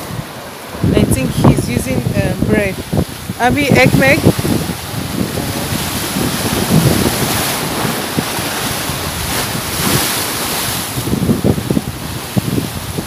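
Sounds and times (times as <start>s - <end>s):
waves breaking against rocks: 0.0s - 13.0s
wind buffeting the microphone: 0.0s - 13.0s.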